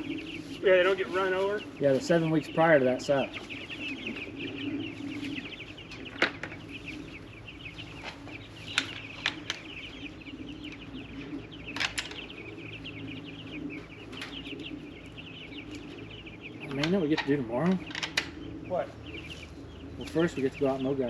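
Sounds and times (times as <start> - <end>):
chickens chirping: 0.0 - 21.0.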